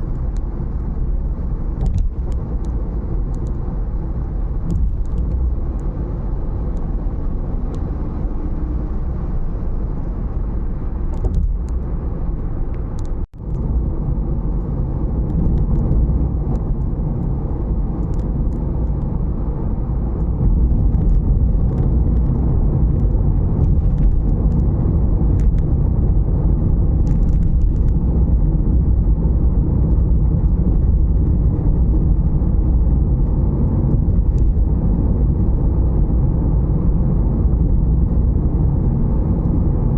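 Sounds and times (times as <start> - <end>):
strong wind buffeting microphone: 0.0 - 39.9.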